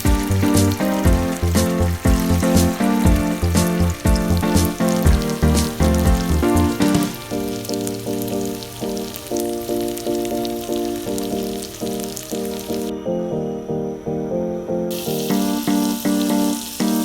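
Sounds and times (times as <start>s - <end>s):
food sizzling in a frying pan: 0.0s - 12.9s, 14.9s - 17.0s
background music with steady beat: 0.0s - 17.0s.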